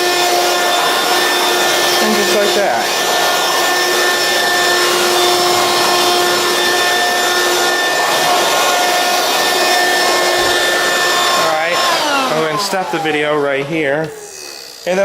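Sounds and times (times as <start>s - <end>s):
stick vacuum running: 0.0s - 15.0s.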